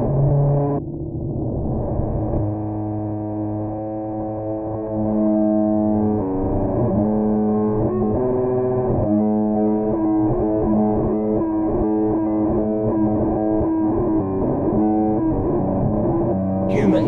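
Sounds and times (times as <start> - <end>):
distorted electric guitar music: 0.0 - 0.8, 1.4 - 17.0.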